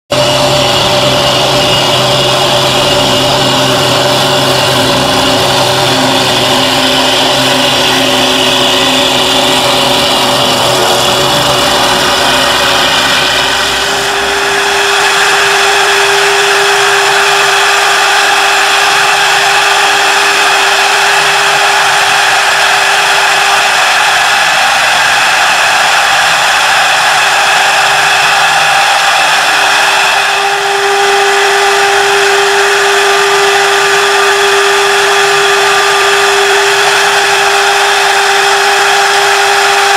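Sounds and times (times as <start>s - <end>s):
lathe motor whine: 0.1s - 39.9s.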